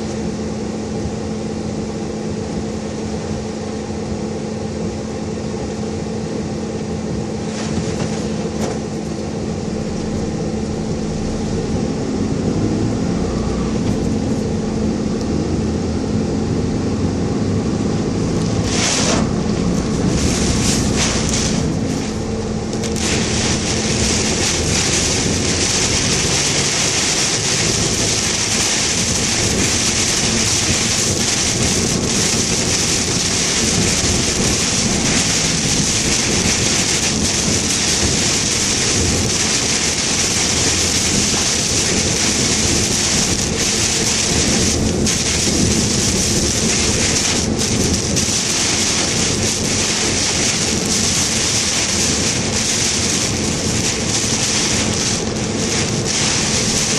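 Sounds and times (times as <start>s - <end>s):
heavy rain beating on a car: 6.5s - 56.9s.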